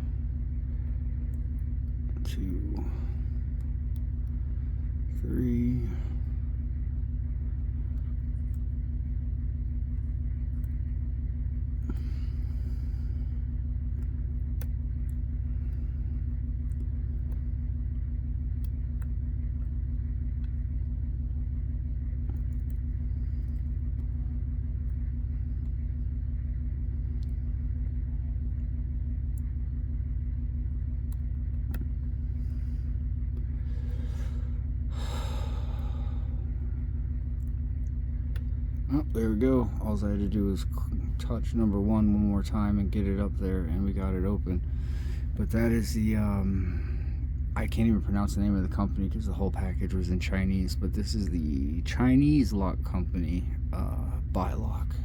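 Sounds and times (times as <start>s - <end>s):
low drone: 0.0s - 55.0s.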